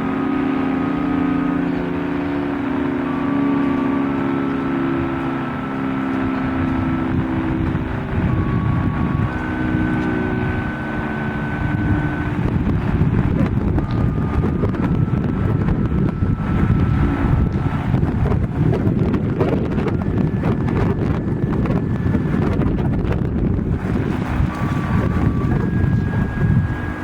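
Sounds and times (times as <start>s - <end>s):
three-tone warning siren: 0.0s - 27.0s
wind buffeting microphone: 0.0s - 27.0s.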